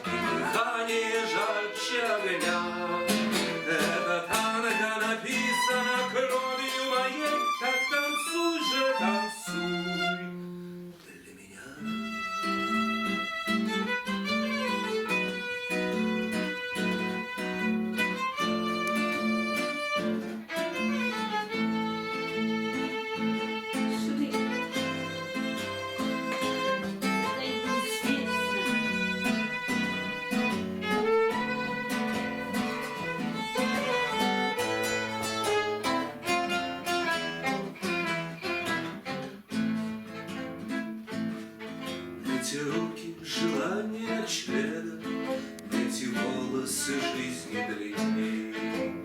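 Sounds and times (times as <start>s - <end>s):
violin melody: 0.0s - 11.0s, 11.8s - 49.0s
acoustic guitar plucked and strummed: 0.0s - 11.2s, 11.8s - 49.0s.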